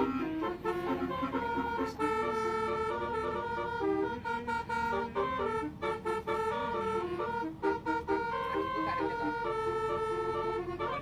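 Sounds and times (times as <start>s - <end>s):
multi-tone horn playing tune: 0.0s - 11.0s.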